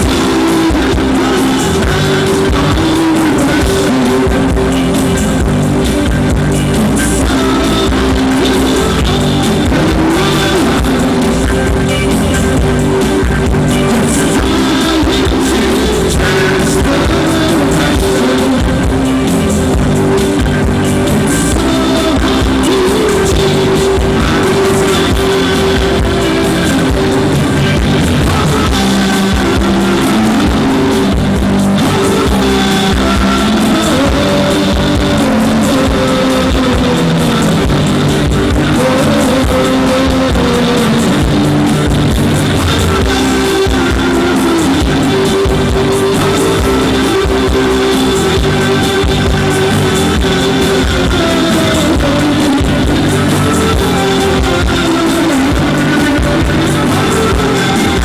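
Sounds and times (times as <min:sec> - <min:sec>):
bass: 0:00.0 - 0:58.0
drums: 0:00.0 - 0:58.0
electric guitar: 0:00.0 - 0:58.0
person singing: 0:00.0 - 0:58.0.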